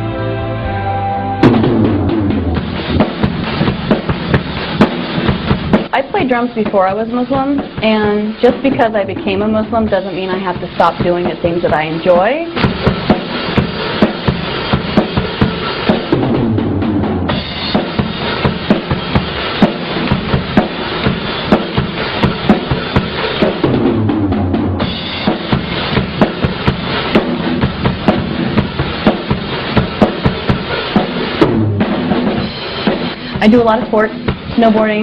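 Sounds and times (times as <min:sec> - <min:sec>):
cymbals: 0:00.6 - 0:35.0
kick drum and snare beat: 0:01.4 - 0:35.0.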